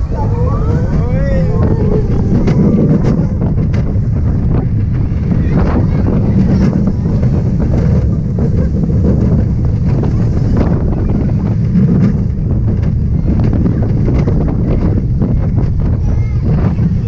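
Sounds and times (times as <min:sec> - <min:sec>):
roller coaster train rumbling: 0:00.0 - 0:17.0
wind buffeting microphone: 0:00.0 - 0:17.0.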